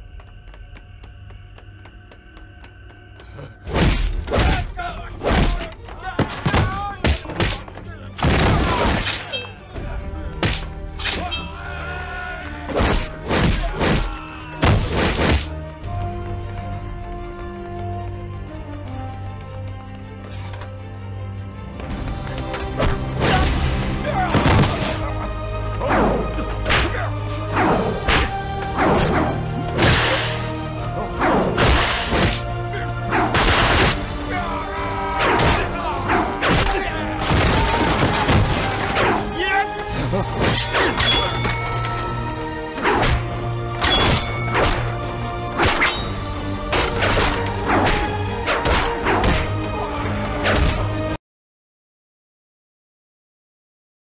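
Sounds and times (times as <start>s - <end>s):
background music: 0.0s - 51.2s.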